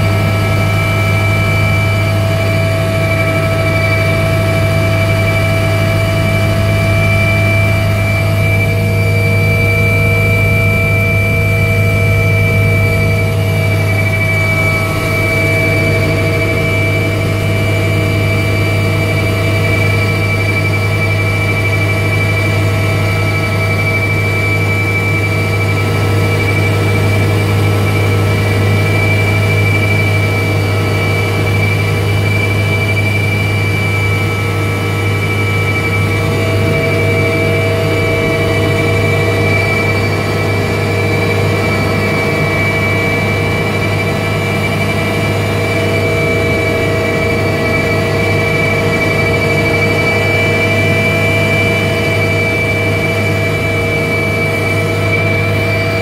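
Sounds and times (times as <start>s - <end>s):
high turbine whine: 0.0s - 56.0s
low helicopter rotor drone: 0.0s - 56.0s.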